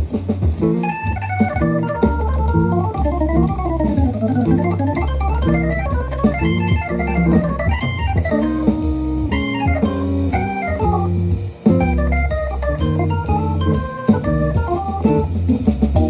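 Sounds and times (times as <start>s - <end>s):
music over speaker: 0.4s - 16.0s.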